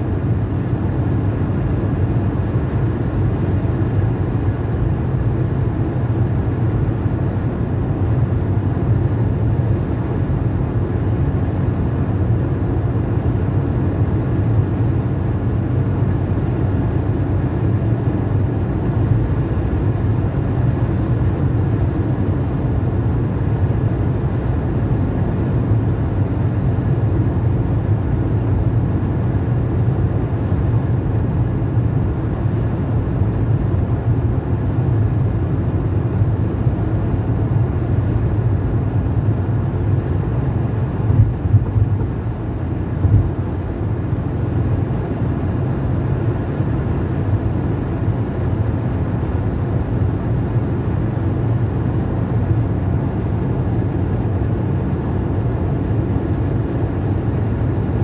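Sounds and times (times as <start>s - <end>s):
road and tyre noise in car: 0.0s - 58.0s.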